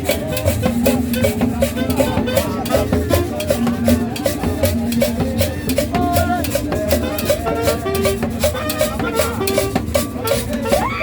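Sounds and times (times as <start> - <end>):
latin dance music: 0.0 - 11.0.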